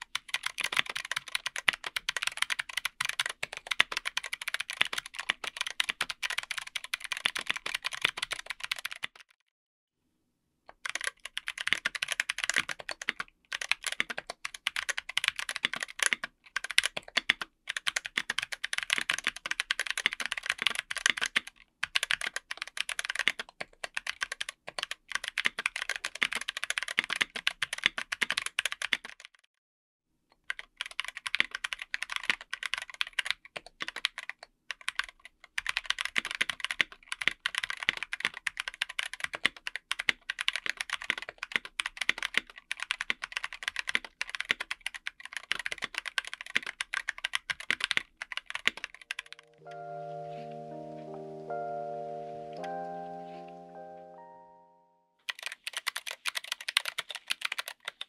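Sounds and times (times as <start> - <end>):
mechanical keyboard typing: 0.0 - 9.4, 10.7 - 29.4, 30.4 - 49.9, 55.2 - 58.0.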